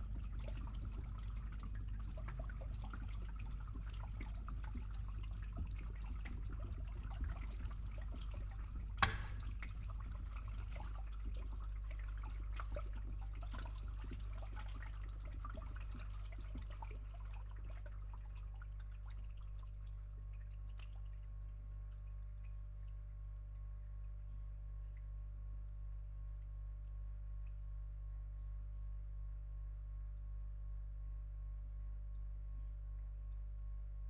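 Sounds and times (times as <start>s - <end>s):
water dripping and trickling: 0.0s - 29.0s, 31.8s - 34.0s
steady low hum: 0.0s - 34.0s.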